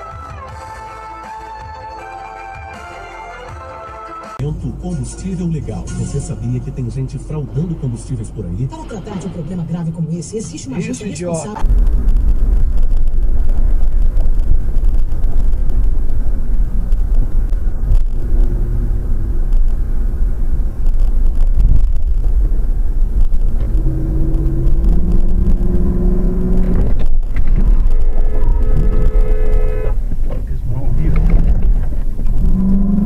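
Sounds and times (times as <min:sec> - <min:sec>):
car engine and road rumble: 0:04.4 - 0:33.0.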